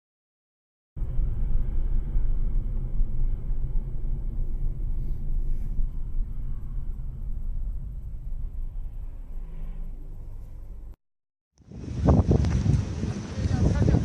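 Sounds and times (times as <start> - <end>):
vehicle road rumble: 1.0 - 11.0, 11.6 - 14.0.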